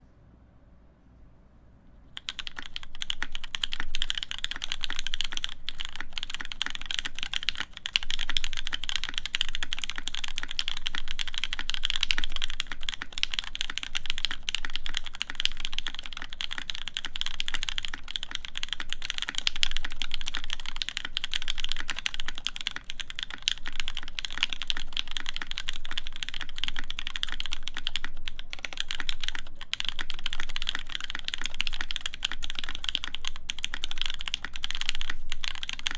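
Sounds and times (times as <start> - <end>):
fast typing on mechanical keyboard: 2.2 - 35.9.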